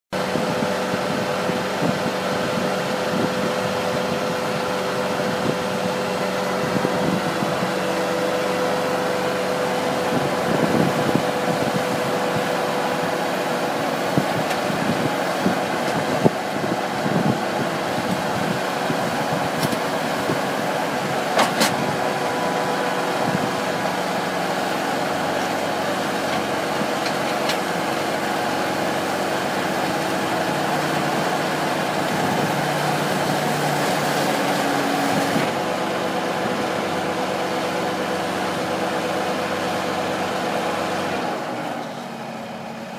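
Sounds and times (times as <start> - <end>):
diesel engine running under load: 0.1 - 42.9
hydraulic auger drive turning: 2.5 - 42.9.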